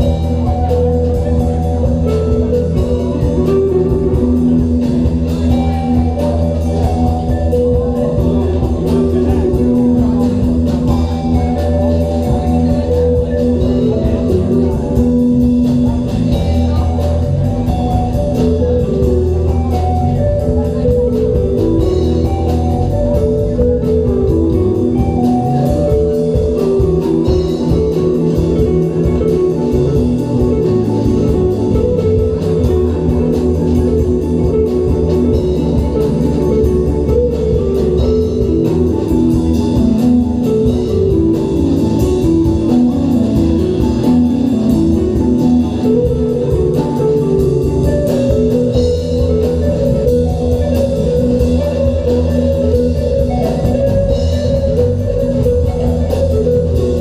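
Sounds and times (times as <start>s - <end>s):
bass guitar: 0.0s - 57.0s
drums: 0.0s - 57.0s
electric guitar melody: 0.0s - 57.0s.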